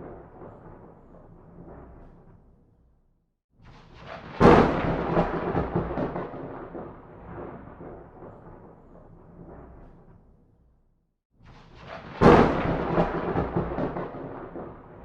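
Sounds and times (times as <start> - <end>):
thunderclap: 0.0 - 2.6, 3.7 - 10.4, 11.5 - 15.0.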